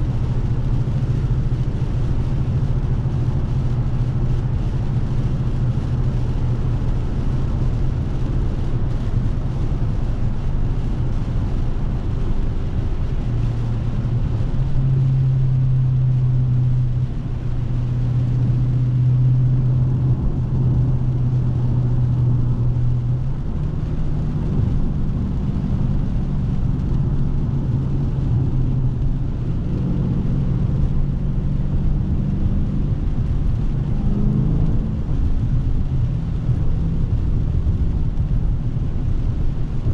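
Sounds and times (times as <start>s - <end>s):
car engine low drone: 0.0s - 39.9s.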